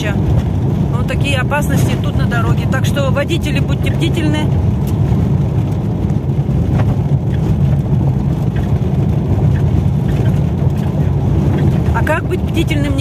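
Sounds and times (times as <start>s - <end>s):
car engine and tyres on gravel: 0.0s - 13.0s.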